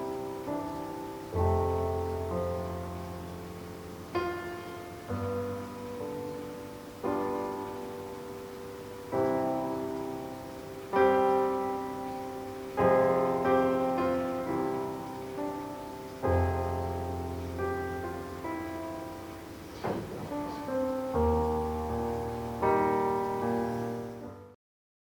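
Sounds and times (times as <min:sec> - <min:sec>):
slow solo piano chords: 0:00.0 - 0:24.6.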